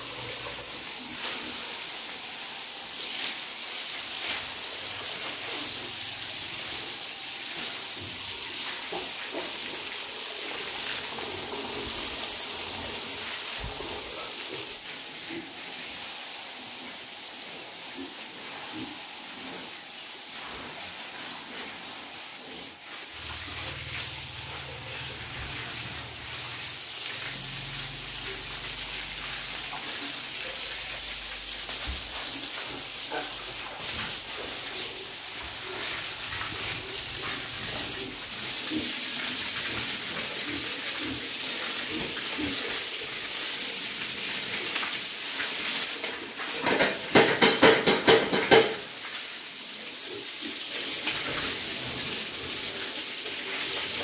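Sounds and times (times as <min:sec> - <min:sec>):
hose spraying on concrete: 0:00.0 - 0:54.0.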